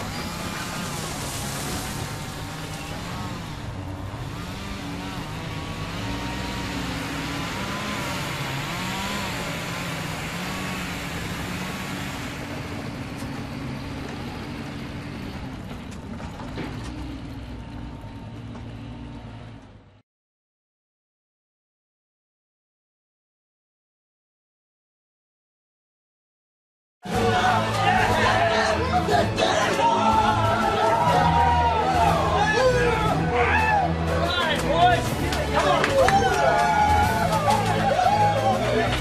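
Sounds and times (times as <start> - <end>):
heavy engine rumble: 0.0 - 20.0, 27.1 - 39.0.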